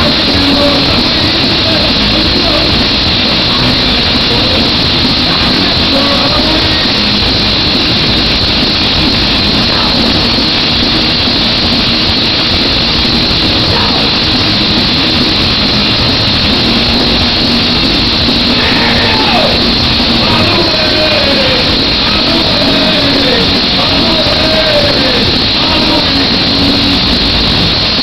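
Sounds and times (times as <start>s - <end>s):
punk band playing live: 0.0s - 28.0s.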